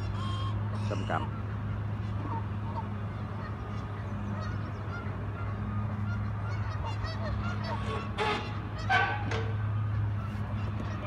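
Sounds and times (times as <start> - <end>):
geese honking: 0.0 - 11.0
steady low hum: 0.0 - 11.0
waterfowl calling: 0.0 - 11.0.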